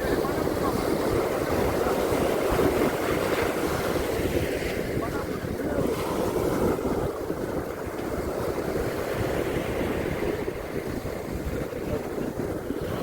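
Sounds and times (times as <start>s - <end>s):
ocean waves washing on beach: 0.0s - 13.0s.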